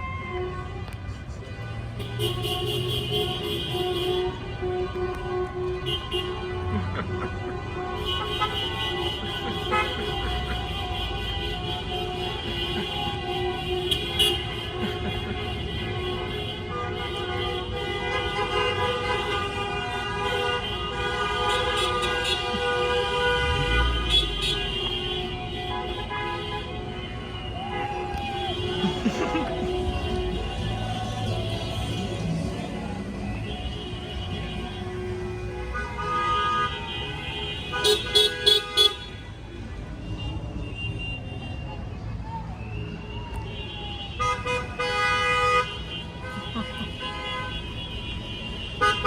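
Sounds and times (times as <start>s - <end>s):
idling cars rumble: 0.0s - 37.4s, 45.6s - 48.8s
car horns honking: 0.0s - 41.6s, 43.4s - 49.0s.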